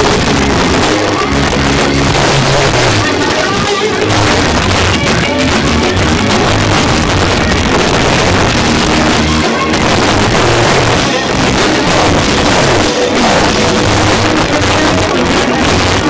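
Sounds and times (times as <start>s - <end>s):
drum kit: 0.0s - 16.0s
electric guitar strummed and picked: 0.0s - 16.0s
rock band playing: 0.0s - 16.0s.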